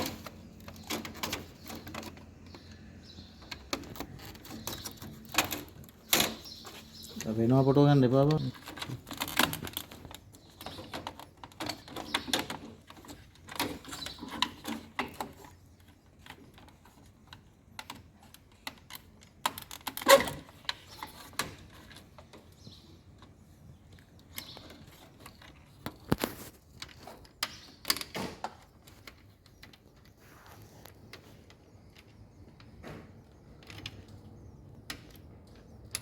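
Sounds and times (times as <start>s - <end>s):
plastic connectors clicking and rattling: 0.0s - 30.2s.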